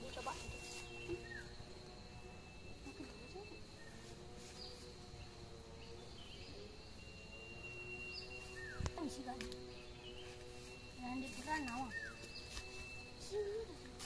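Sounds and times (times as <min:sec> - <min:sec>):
birds chirping: 0:00.0 - 0:14.0
high insect whine: 0:00.0 - 0:14.0.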